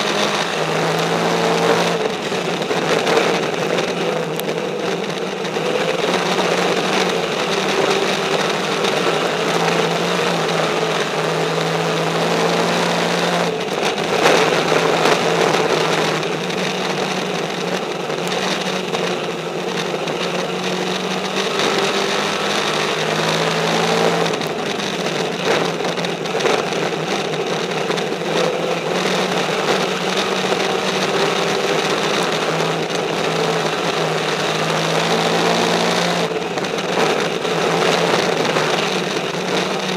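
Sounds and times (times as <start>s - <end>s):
race car engine: 0.0s - 39.9s
wind and track noise: 0.0s - 39.9s.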